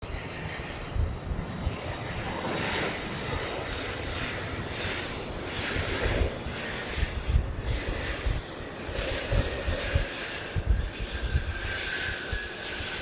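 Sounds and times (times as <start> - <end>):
high engine whine: 0.0 - 13.0
jet engines roaring: 0.0 - 13.0.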